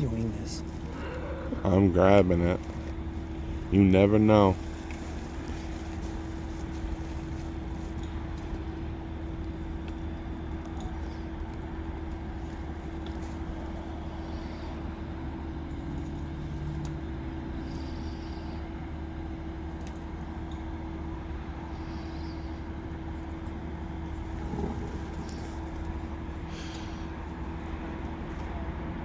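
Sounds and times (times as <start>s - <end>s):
crane diesel engine droning: 0.0s - 29.0s.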